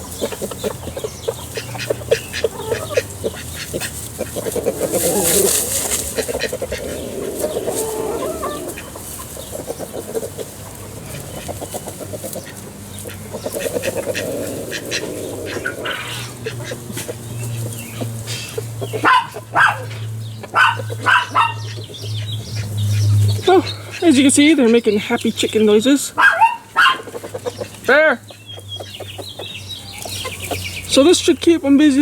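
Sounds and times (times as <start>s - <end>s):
sharp chicken calls: 0.0s - 24.1s, 26.1s - 31.0s
chickens clucking: 0.0s - 32.0s.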